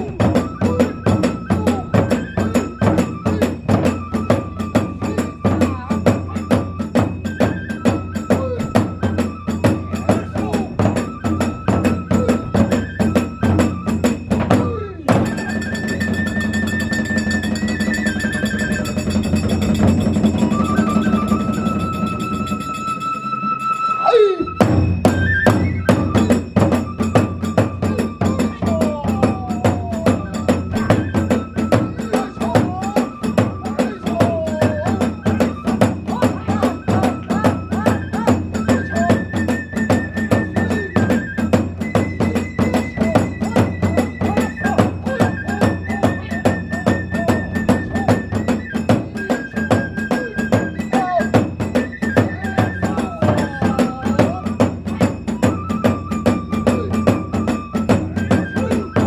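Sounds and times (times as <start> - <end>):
bamboo flute melody: 0.0 - 59.0
drums: 0.0 - 59.0
hand cymbals: 8.2 - 59.0.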